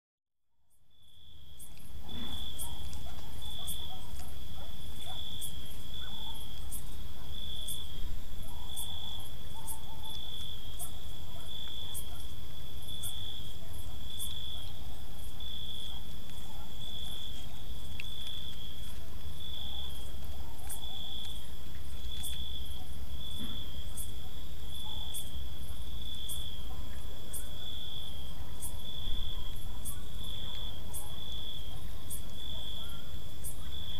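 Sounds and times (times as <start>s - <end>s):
crickets chirping: 0.6s - 33.9s
high ticking insect call: 0.7s - 33.9s.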